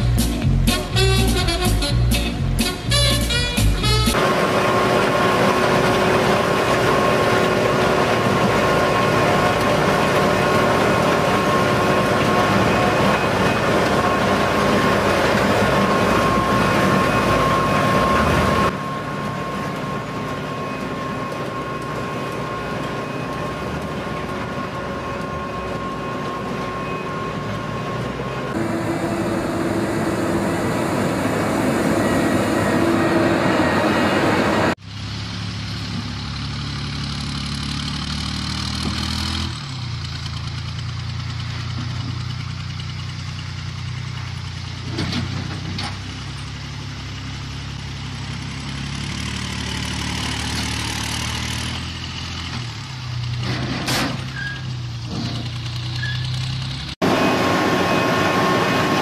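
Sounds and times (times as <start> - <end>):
diesel engine running: 0.0 - 59.0
truck machinery whining: 0.0 - 59.0.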